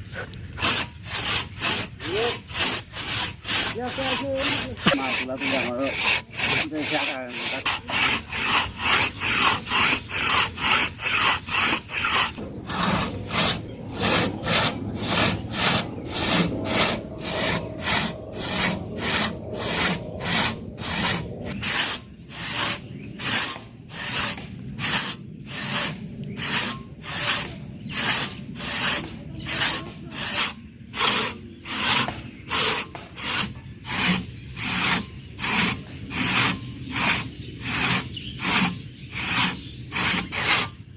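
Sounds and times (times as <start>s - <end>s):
hand saw cutting wood: 0.0s - 40.8s.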